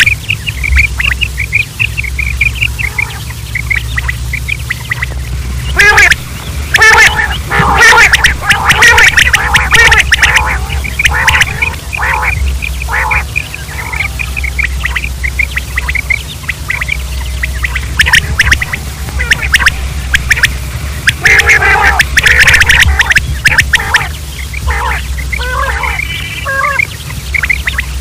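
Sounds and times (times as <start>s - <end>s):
quail calling: 0.0s - 28.0s
steady low hum: 0.0s - 28.0s.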